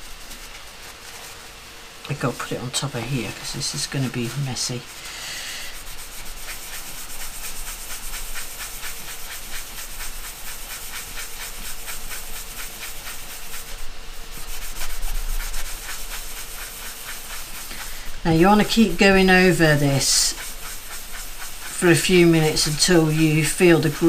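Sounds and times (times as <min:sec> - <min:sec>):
cloth rubbing with gritty paste: 0:00.0 - 0:24.0.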